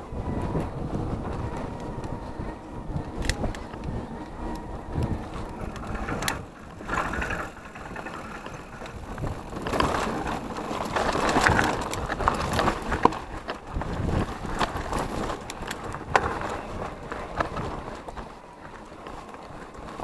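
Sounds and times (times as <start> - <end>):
bike frame rattling: 0.0 - 20.0
tyres crunching over gravel: 1.2 - 20.0.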